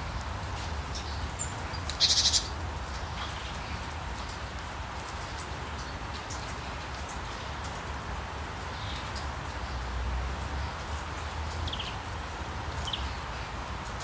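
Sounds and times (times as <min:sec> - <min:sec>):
white noise with low rumble: 0:00.0 - 0:14.0.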